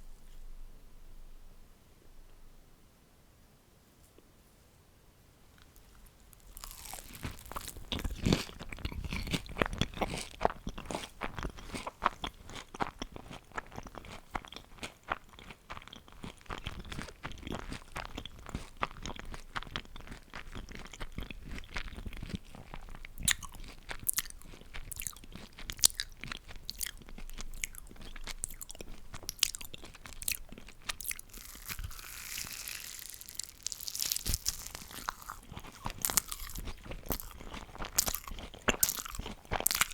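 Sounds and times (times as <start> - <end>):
chewing crunchy food: 5.6 - 39.9.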